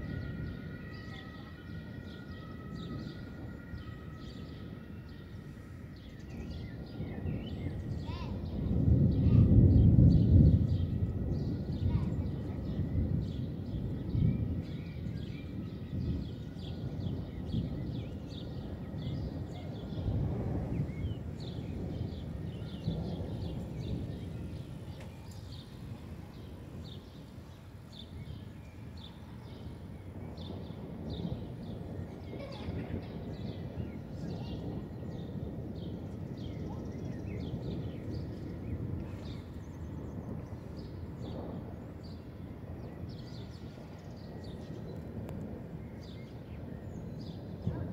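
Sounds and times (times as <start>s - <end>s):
birds chirping: 0.0s - 47.9s
wind rumble on microphone: 0.0s - 47.9s.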